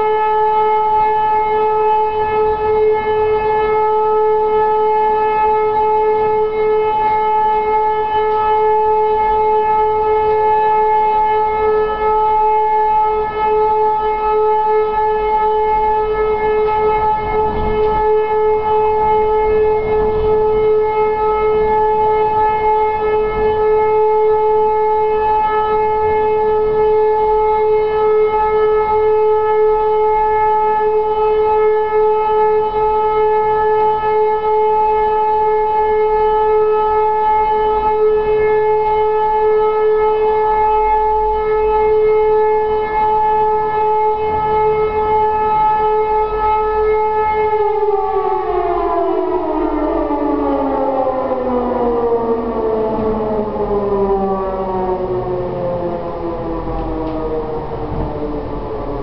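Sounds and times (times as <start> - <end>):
siren steady tone: 0.0 - 59.0.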